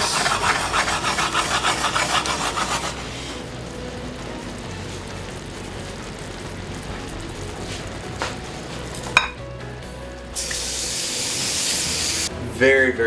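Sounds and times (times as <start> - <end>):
louder hiss: 0.0 - 12.3
sauce sizzling in a frying pan: 0.0 - 12.3.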